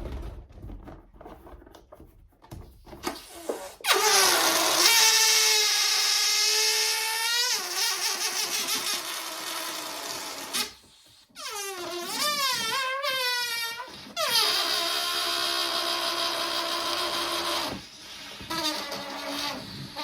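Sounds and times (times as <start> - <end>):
balloon deflating with squealing whine: 3.0 - 20.0.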